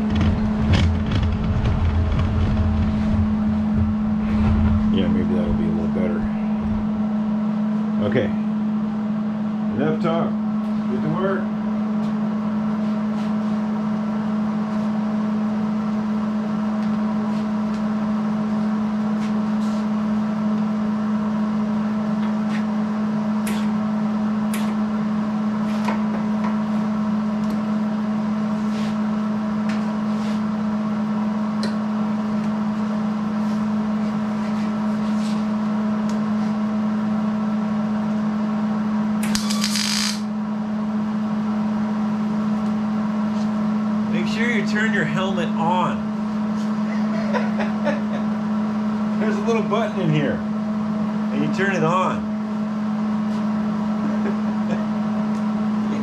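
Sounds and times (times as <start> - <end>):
electrical hum and buzz: 0.0 - 56.0.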